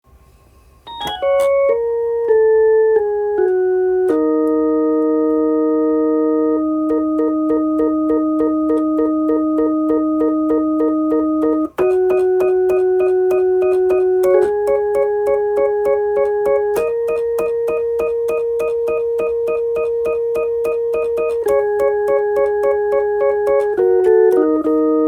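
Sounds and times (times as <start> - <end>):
electronic organ music: 0.6 - 25.0.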